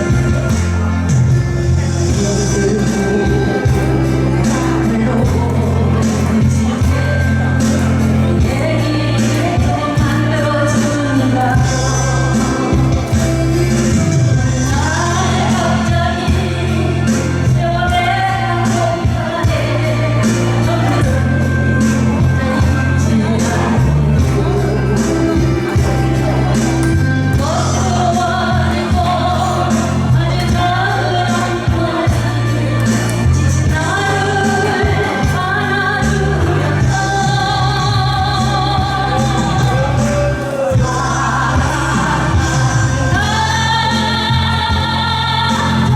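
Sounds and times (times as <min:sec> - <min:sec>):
backing music with bass line: 0:00.0 - 0:45.9
instrumental accompaniment: 0:00.0 - 0:45.9
person singing: 0:00.0 - 0:45.9.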